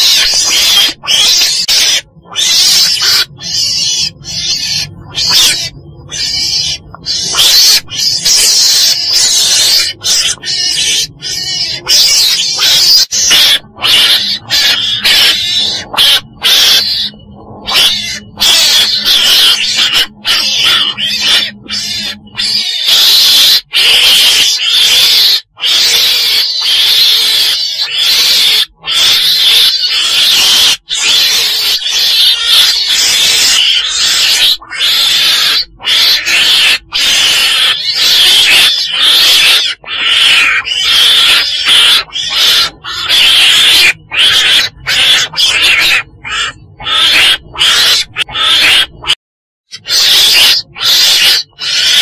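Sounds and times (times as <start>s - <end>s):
weasel chattering calls: 0.0s - 52.0s.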